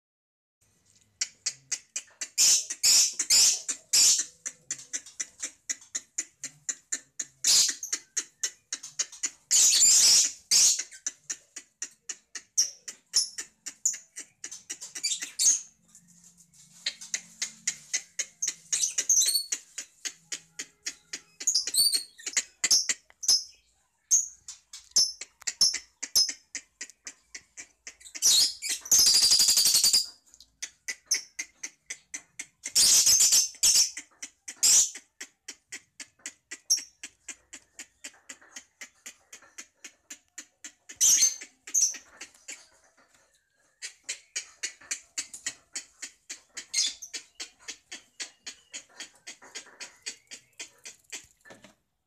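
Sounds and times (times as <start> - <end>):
lovebirds chirping: 0.7 - 52.0.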